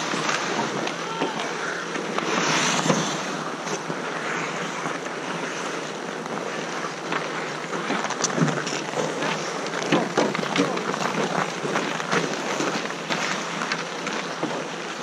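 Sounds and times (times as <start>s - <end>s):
skate blades scraping ice: 0.0s - 15.0s.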